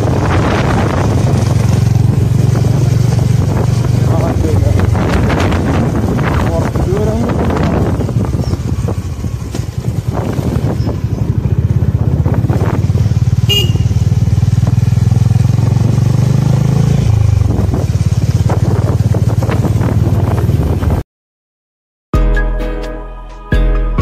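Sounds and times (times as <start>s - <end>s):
vehicle engine pulsing drone: 0.0s - 21.0s.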